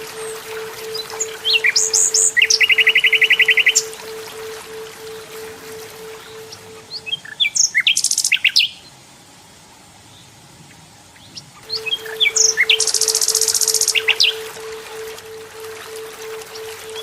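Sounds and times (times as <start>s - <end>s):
nightingale singing: 0.0s - 8.8s, 11.6s - 17.0s.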